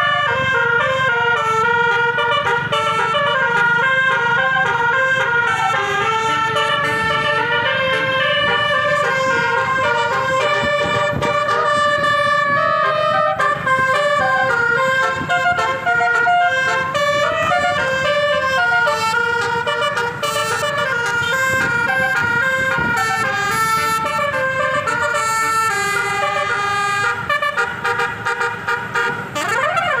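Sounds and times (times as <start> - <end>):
bus horn playing melody: 0.0 - 30.0
traffic rumble: 0.0 - 30.0.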